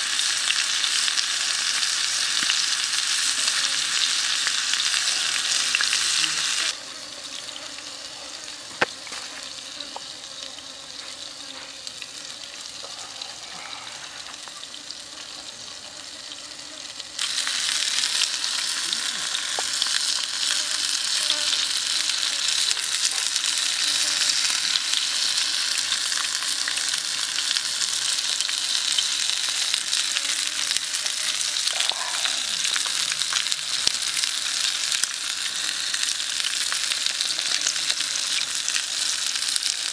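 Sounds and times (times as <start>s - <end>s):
meat sizzling in a pan: 0.0s - 39.9s.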